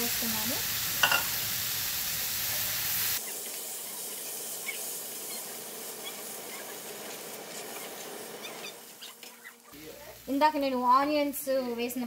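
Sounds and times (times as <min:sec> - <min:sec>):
beans sizzling in oil: 0:00.0 - 0:12.0.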